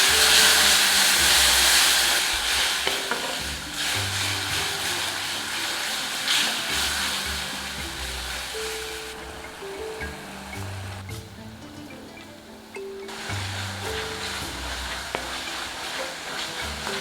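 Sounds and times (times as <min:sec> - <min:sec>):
spoon scraping and knocking pan: 0:00.0 - 0:11.4, 0:13.1 - 0:17.0
chicken sizzling in a pan: 0:00.0 - 0:11.6, 0:12.7 - 0:17.0.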